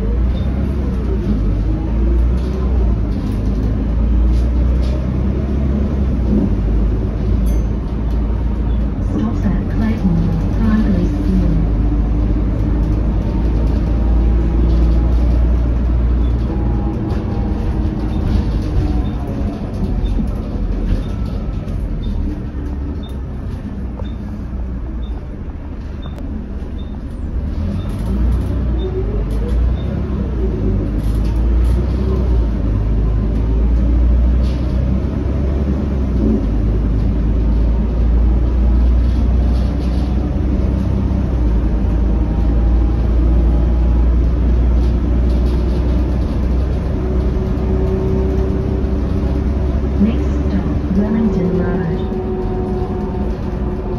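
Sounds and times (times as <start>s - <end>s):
bus diesel engine rumbling: 0.0s - 53.9s
road noise: 0.0s - 53.9s.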